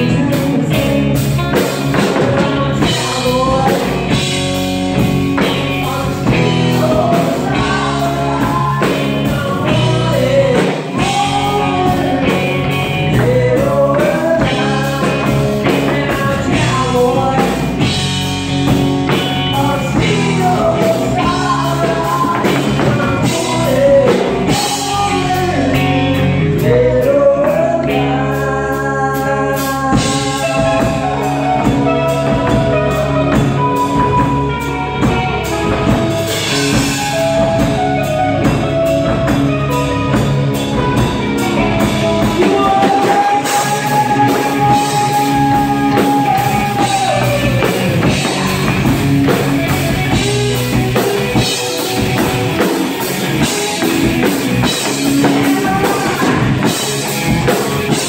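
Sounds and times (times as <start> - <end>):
drum kit beat: 0.0 - 28.2, 29.6 - 58.0
bass guitar: 0.0 - 58.0
electric guitar: 0.0 - 58.0
man singing: 0.0 - 58.0.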